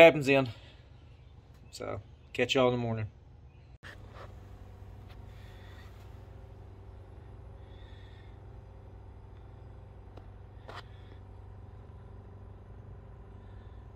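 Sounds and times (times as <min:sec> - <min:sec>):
low machinery hum: 0:00.0 - 0:13.9.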